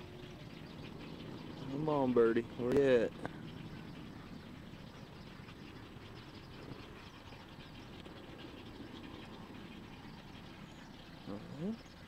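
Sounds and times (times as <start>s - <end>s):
birds squawking: 0.0s - 12.0s
low steady rumble: 0.0s - 12.0s.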